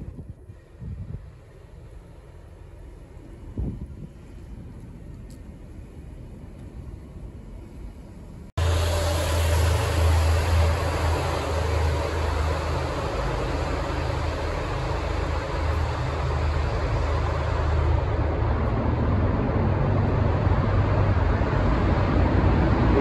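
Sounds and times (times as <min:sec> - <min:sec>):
traffic rumbling in a tunnel: 0:00.0 - 0:23.0.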